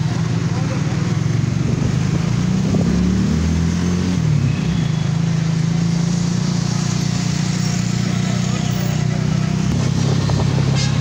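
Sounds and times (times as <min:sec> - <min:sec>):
motorcycle and car engines running: 0:00.0 - 0:11.0.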